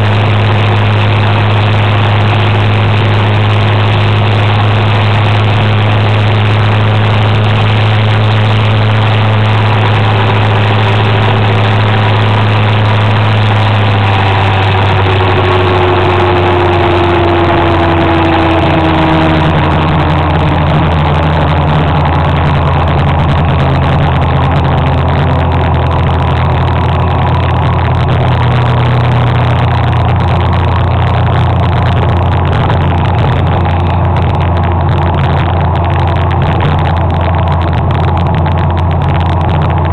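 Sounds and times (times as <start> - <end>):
motor scooter engine running: 0.0 - 39.9
wind and road noise: 0.0 - 39.9.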